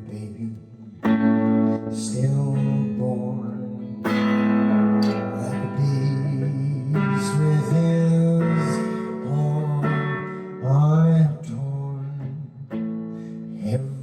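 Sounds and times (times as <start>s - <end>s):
low voice singing long notes: 0.0s - 12.8s
slow song with guitar: 0.0s - 14.0s.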